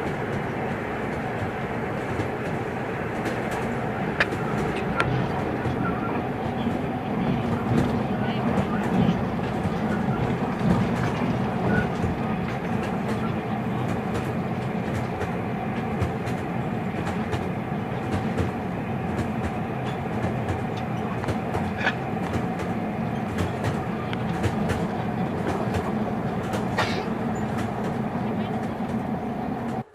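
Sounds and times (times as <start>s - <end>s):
moving train rumble: 0.0s - 29.9s.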